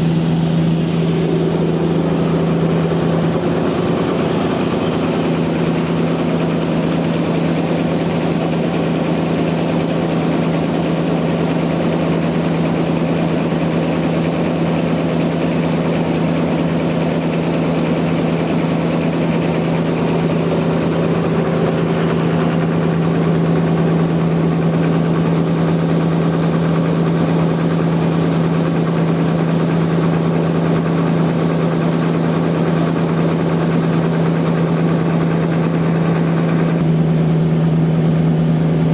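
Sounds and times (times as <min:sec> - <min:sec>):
sawmill machinery humming: 0:00.0 - 0:38.9.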